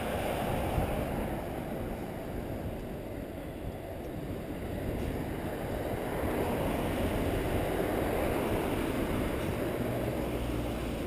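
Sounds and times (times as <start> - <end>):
bicycle rolling on pavement: 0.0 - 11.0
wind on microphone: 0.0 - 11.0.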